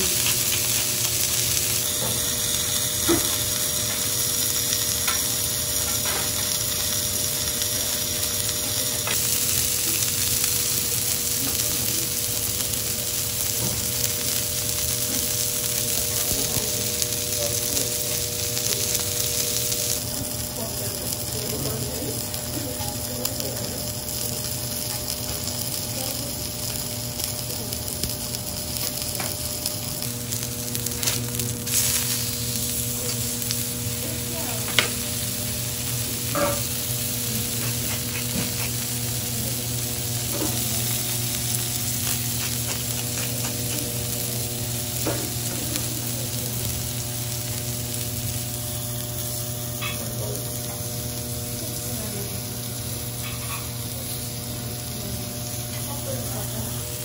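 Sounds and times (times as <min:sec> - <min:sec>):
steak sizzling on a griddle: 0:00.0 - 0:57.0.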